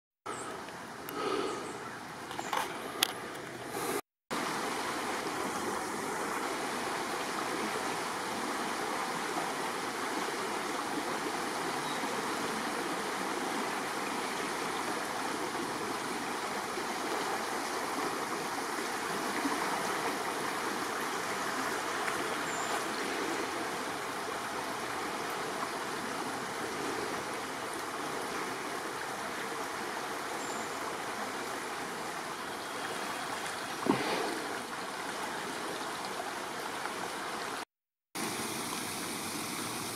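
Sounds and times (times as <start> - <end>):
creek rushing: 0.3 - 39.9.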